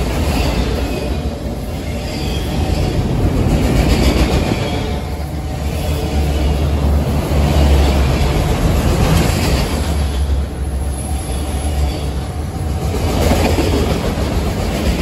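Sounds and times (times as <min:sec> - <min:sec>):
train cars clattering on track: 0:00.0 - 0:15.0
train wheels rumbling: 0:00.0 - 0:15.0.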